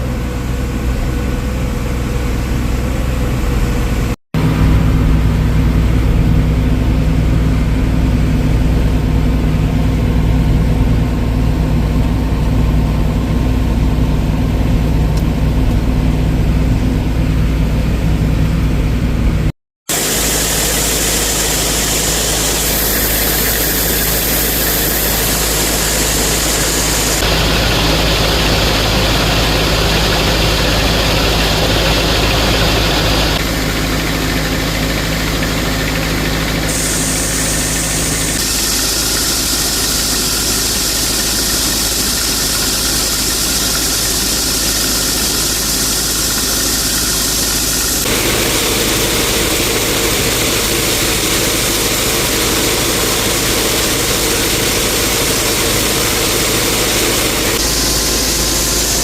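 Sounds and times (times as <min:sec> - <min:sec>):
farm machinery engines droning: 0:00.0 - 0:59.0.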